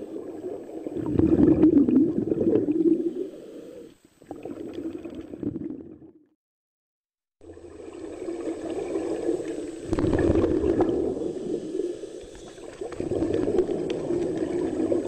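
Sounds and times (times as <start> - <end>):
underwater bubbles rumbling: 0.0 - 3.3, 4.2 - 6.3, 7.4 - 12.0, 12.6 - 15.0.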